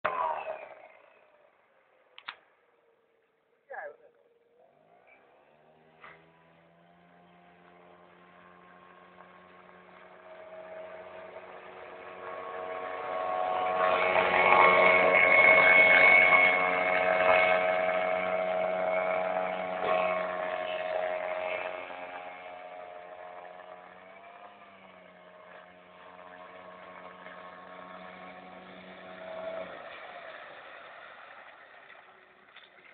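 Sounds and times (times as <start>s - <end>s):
small boat motor running: 0.0s - 32.9s.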